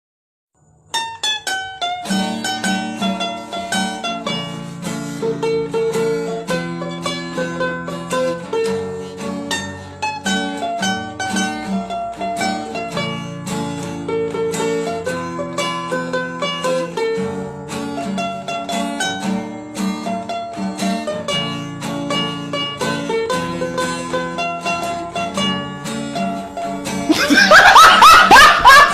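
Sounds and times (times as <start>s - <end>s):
upbeat plucked string music: 0.9s - 28.9s.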